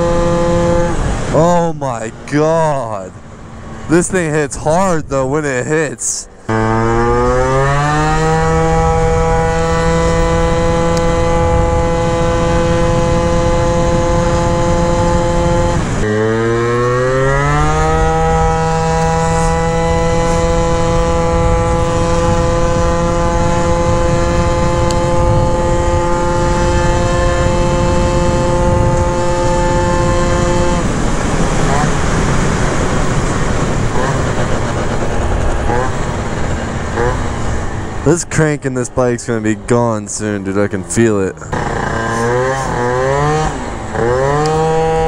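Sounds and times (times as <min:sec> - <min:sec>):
scooter engine at full throttle: 0:00.0 - 0:01.6, 0:06.2 - 0:38.6, 0:39.7 - 0:45.0.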